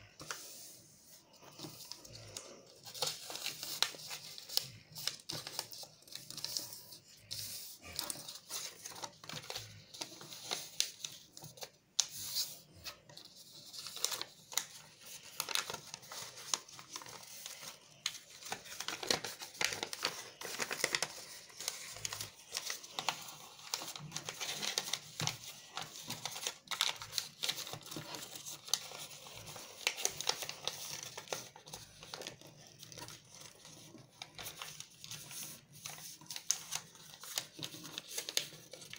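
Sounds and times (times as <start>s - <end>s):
paper rustling and crinkling: 0.0s - 38.9s.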